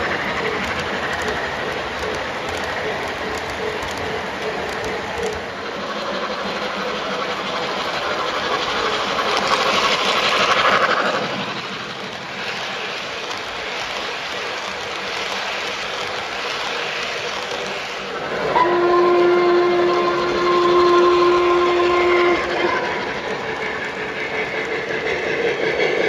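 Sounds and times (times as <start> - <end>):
model locomotive hissing rush: 0.0 - 26.0
model train wheels rumbling and clicking: 0.0 - 26.0.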